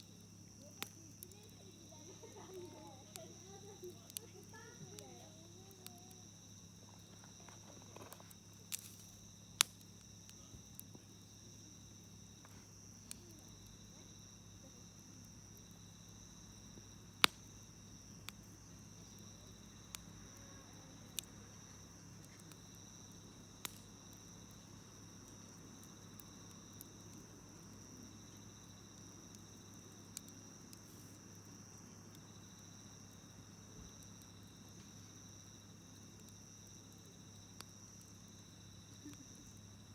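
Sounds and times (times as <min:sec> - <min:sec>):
campfire crackling and popping: 0:00.0 - 0:39.9
high insect chorus: 0:00.0 - 0:39.9.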